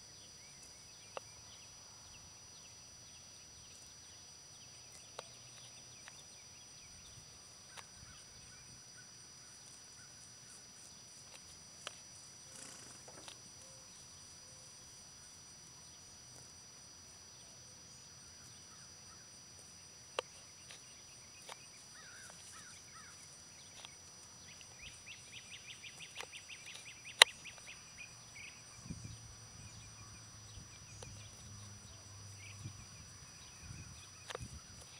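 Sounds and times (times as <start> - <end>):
steady high hiss: 0.0 - 34.9.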